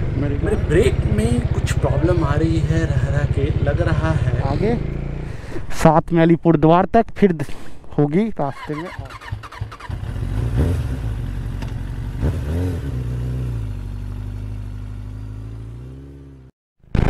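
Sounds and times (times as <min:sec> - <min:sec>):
motorcycle engine revving: 0:00.0 - 0:05.5, 0:08.5 - 0:17.0.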